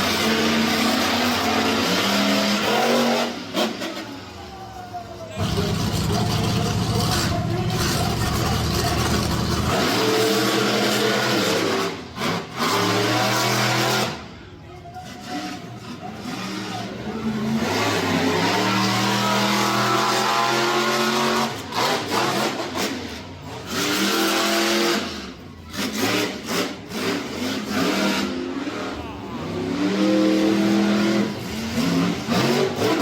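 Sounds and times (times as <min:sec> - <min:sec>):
truck engine revving: 0:00.0 - 0:03.9, 0:05.4 - 0:14.2, 0:16.2 - 0:33.0.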